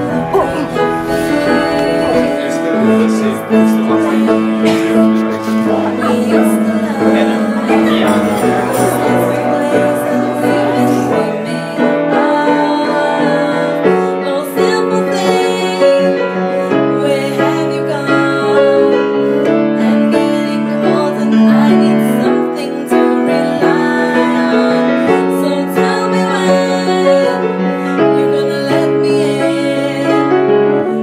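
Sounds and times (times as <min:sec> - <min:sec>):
piano background music: 0:00.0 - 0:31.0.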